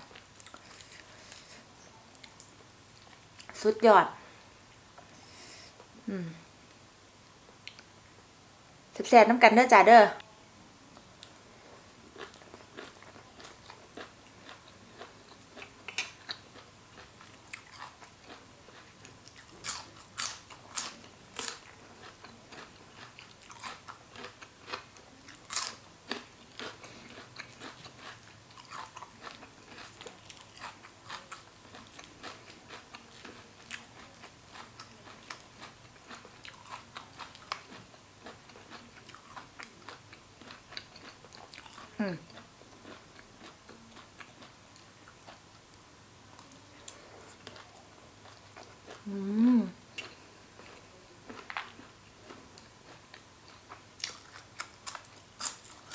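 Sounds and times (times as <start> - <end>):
chewing and crunching: 0.0 - 3.6, 12.0 - 49.1, 49.9 - 55.9.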